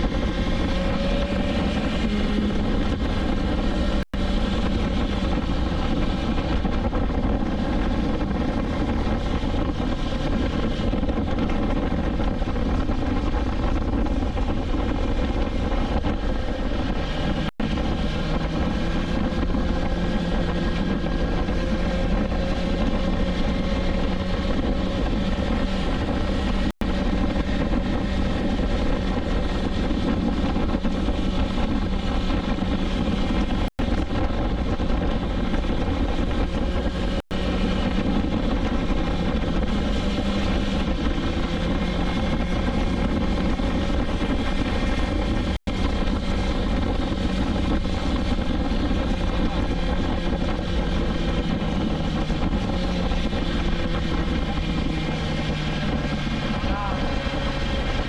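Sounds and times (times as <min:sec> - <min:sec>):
motorcycle engine cruising: 0:00.0 - 0:58.0
road noise: 0:00.0 - 0:58.0
wind noise: 0:00.0 - 0:58.0.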